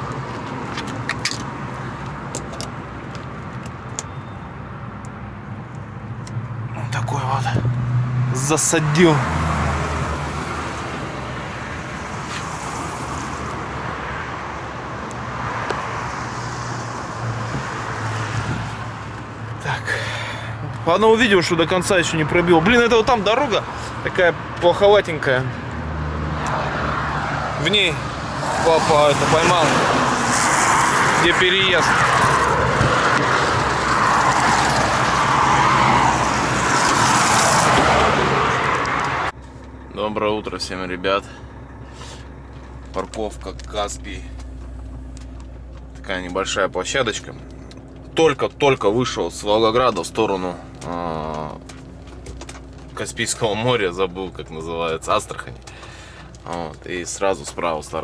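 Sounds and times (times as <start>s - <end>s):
truck tyre and road noise: 0.0s - 58.0s
vehicle engine and traffic rumble: 0.0s - 58.0s.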